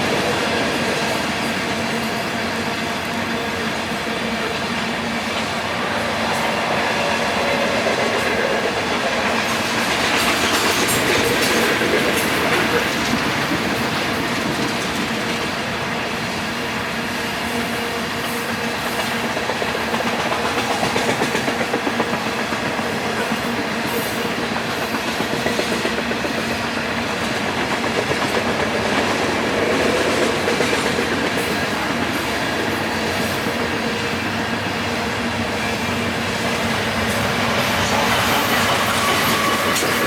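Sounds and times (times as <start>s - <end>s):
clickety-clack over rail joints: 0.0s - 40.0s
freight train wheels rumbling: 0.0s - 40.0s.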